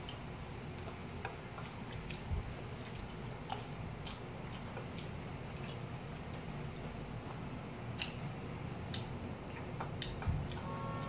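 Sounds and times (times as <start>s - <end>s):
low room hum: 0.0s - 11.0s
person chewing food: 0.0s - 11.0s.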